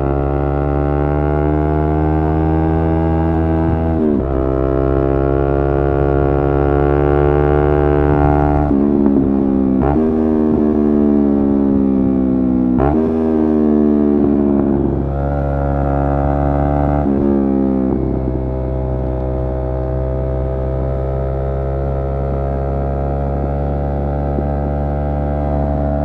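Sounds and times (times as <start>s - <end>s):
motorcycle engine running: 1.9s - 26.0s.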